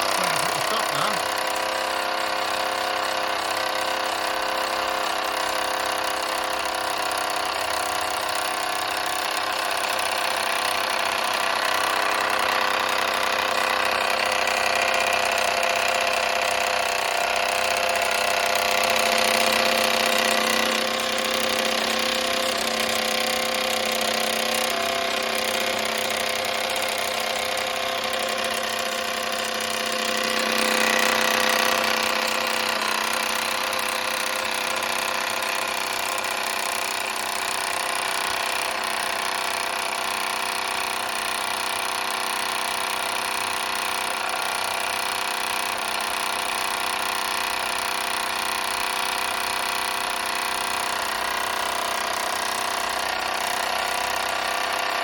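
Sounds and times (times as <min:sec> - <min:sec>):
toy steam engine whirring: 0:00.0 - 0:55.0.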